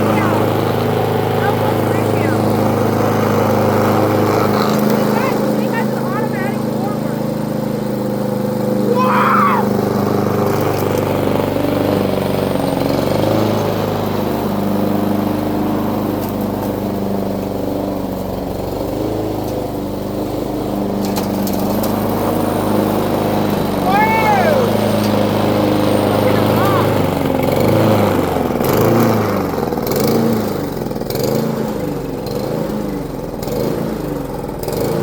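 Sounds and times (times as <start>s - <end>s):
lawn mower engine running: 0.0s - 35.0s.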